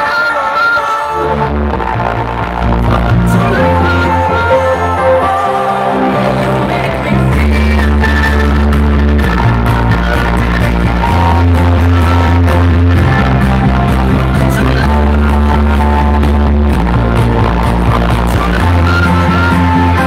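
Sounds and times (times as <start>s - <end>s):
loud dance music with heavy bass: 0.0s - 20.0s.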